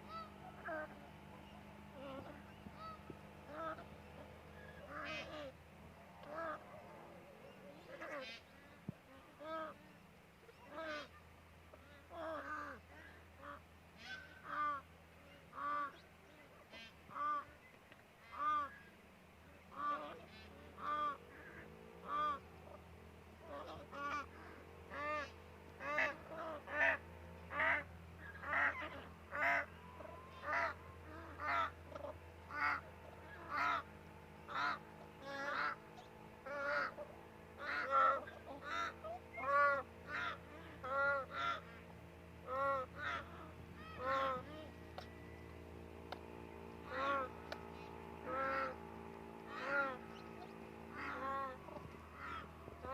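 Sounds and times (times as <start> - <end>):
peafowl honking calls: 0.0 - 52.9.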